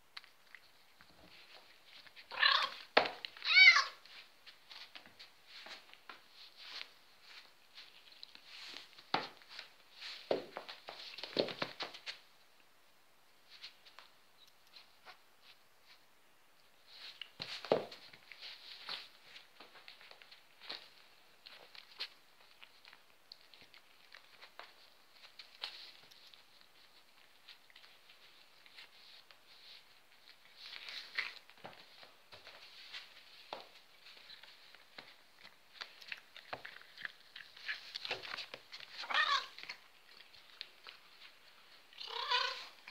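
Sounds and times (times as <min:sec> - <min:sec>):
rustling on carpet: 0:03.8 - 0:12.3, 0:16.8 - 0:42.9.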